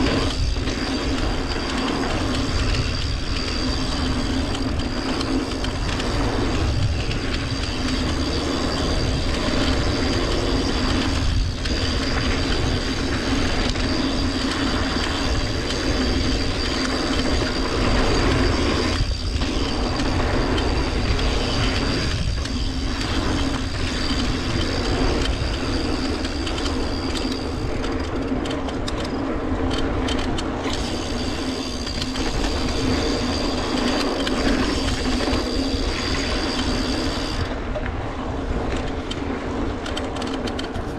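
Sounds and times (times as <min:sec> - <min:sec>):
bike tyre and drivetrain rattle: 0:00.0 - 0:40.9
wind on microphone: 0:00.0 - 0:40.9.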